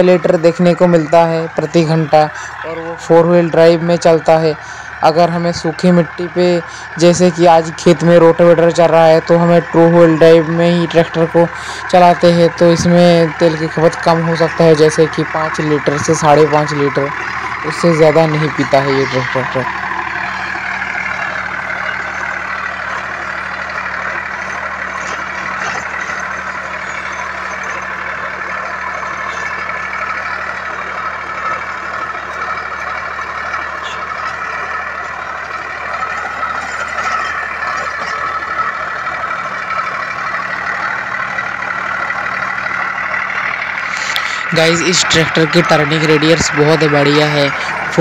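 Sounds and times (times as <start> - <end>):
rotavator churning soil: 0.0 - 48.0
tractor diesel engine running: 0.0 - 48.0.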